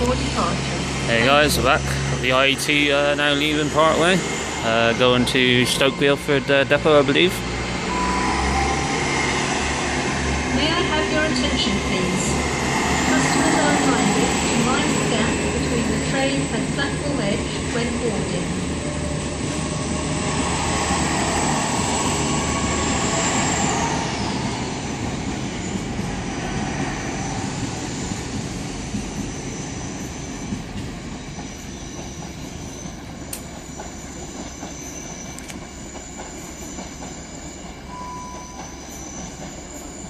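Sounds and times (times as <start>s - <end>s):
train pulling away with whine: 0.0s - 40.0s.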